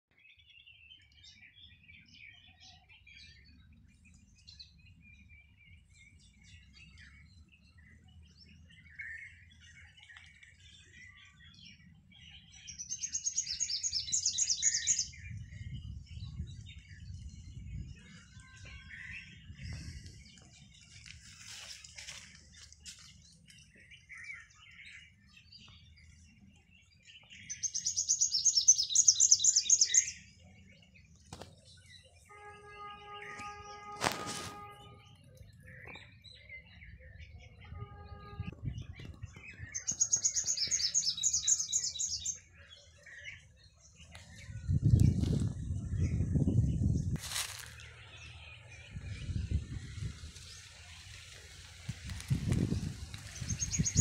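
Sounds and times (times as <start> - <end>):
small birds chirping: 0.1 - 32.3, 33.0 - 54.0.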